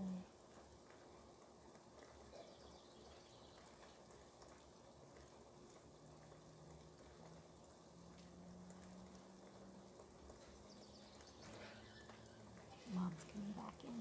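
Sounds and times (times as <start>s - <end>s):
faint low hum: 0.0s - 14.0s
faint rain hiss: 0.0s - 14.0s.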